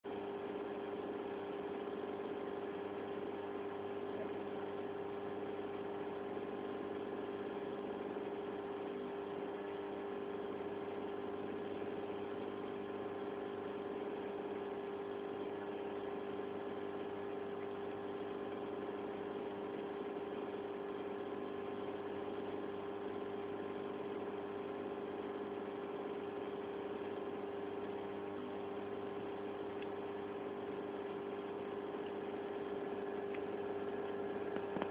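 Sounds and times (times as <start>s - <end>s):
aquarium pump humming: 0.1s - 34.9s.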